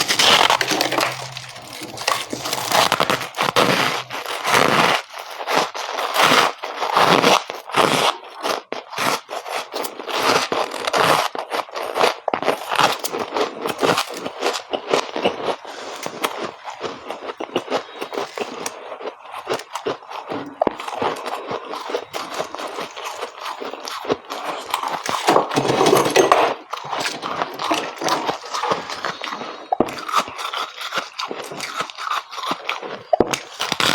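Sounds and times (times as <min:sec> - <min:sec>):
frost being bitten and chewed: 0:00.0 - 0:33.9.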